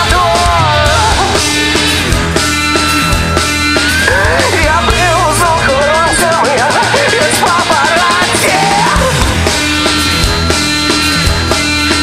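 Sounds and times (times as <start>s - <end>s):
bass: 0.0s - 12.0s
drum beat: 0.0s - 12.0s.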